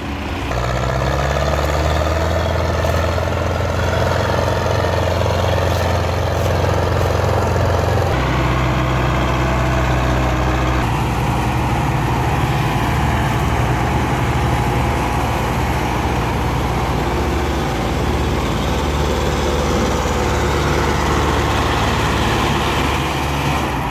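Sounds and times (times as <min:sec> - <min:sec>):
tractor diesel engine droning: 0:00.0 - 0:23.9.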